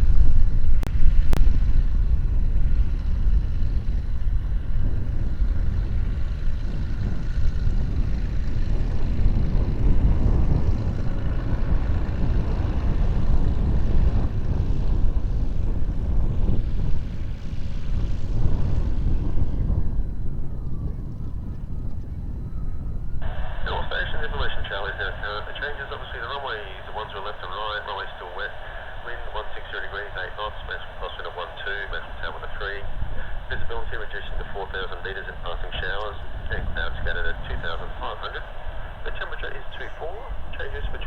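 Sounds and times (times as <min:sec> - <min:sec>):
aircraft engine drone: 0:00.0 - 0:41.0
wind buffeting microphone: 0:00.0 - 0:41.0.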